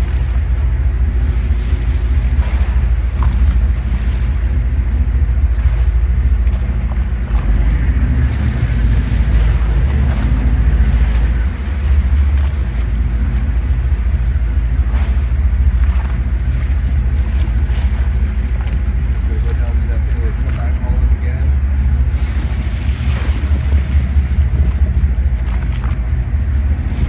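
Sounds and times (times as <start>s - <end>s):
boat engine humming: 0.0s - 27.0s
wind on microphone: 0.0s - 27.0s.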